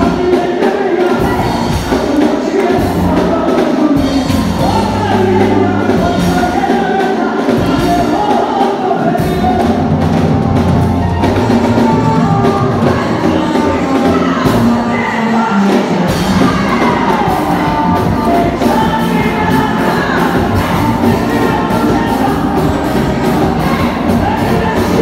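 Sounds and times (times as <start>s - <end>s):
woman singing into a microphone: 0.0s - 9.6s, 11.2s - 25.0s
live band music: 0.0s - 25.0s.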